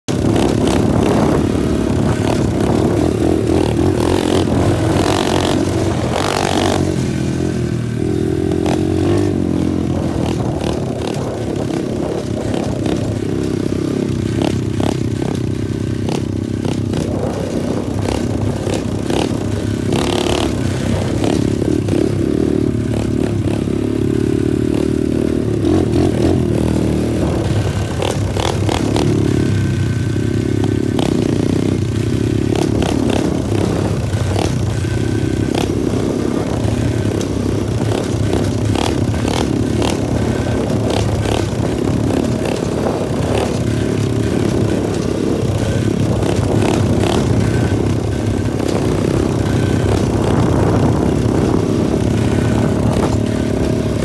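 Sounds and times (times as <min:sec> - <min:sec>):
pit bike engine running: 0:00.0 - 0:54.0.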